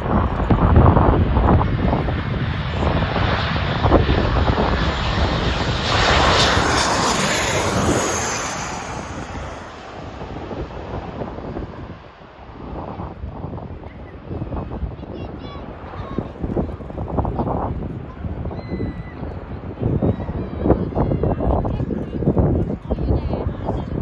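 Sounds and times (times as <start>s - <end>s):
jet engines passing close: 0.0s - 24.0s
wind buffeting microphone: 0.0s - 24.0s.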